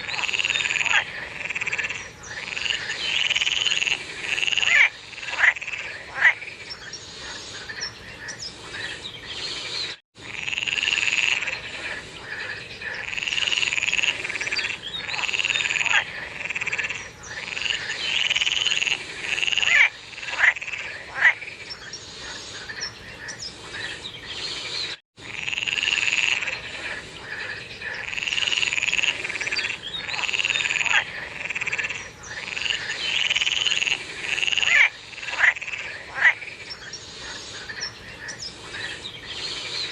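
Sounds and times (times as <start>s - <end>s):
frogs calling: 0.0s - 24.5s, 25.2s - 39.9s.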